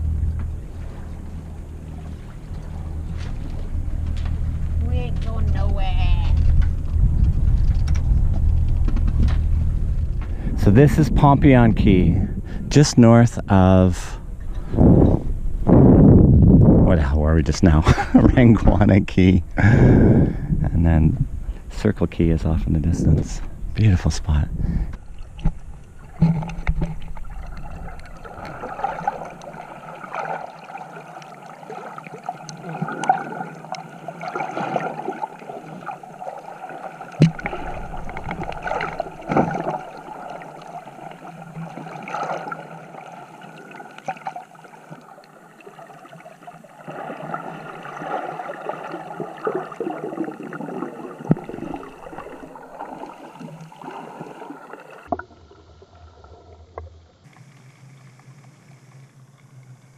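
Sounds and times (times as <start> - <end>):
underwater gurgling and sloshing: 0.0 - 59.9.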